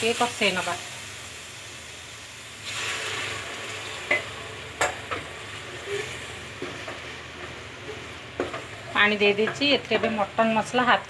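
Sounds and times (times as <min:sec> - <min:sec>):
masala sizzling: 0:00.0 - 0:11.0.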